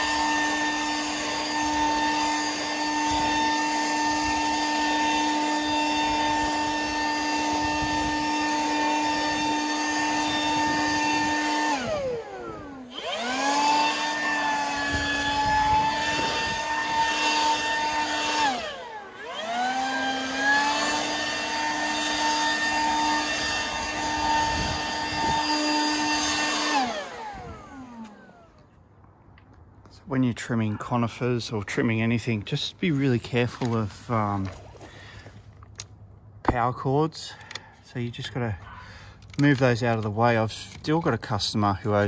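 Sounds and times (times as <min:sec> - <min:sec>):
leaf blower whining: 0:00.0 - 0:28.8, 0:30.5 - 0:35.9, 0:37.0 - 0:42.0.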